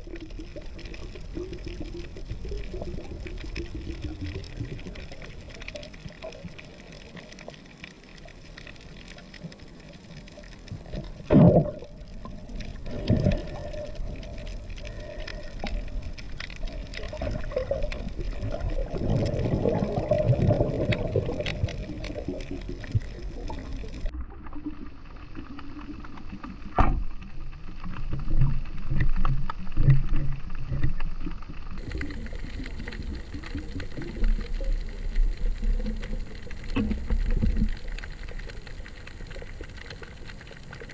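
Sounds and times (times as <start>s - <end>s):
crackling clicks: 0.0s - 40.9s
gurgling water: 0.0s - 40.9s
underwater rush of water: 0.0s - 40.9s.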